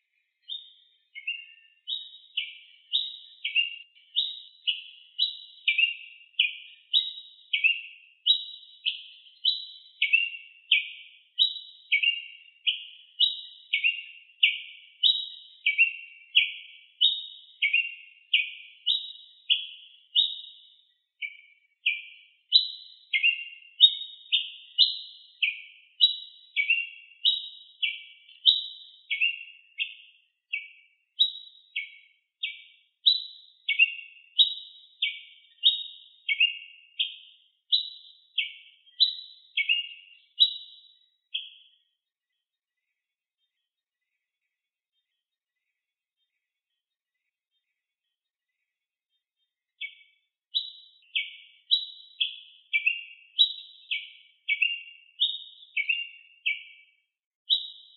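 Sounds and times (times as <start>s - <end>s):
bird singing chirping notes: 0.0s - 41.9s, 42.7s - 57.9s.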